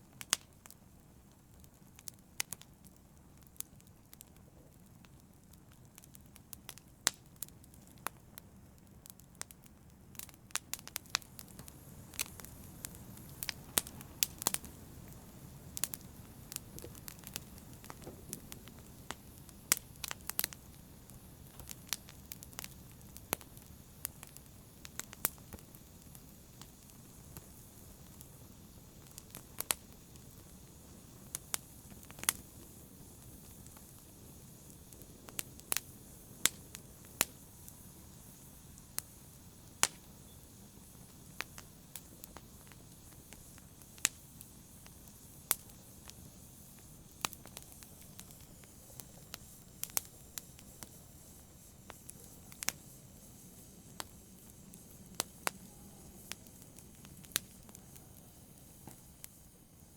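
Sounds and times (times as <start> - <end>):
low hiss of burning: 0.0 - 59.9
wood fire crackling: 0.0 - 59.9.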